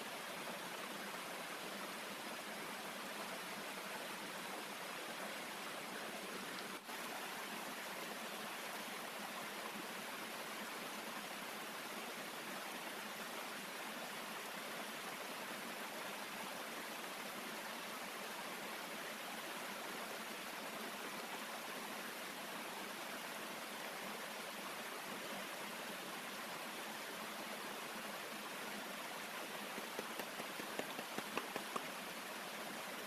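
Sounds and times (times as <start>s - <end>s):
stream cascading over rocks: 0.0s - 33.0s.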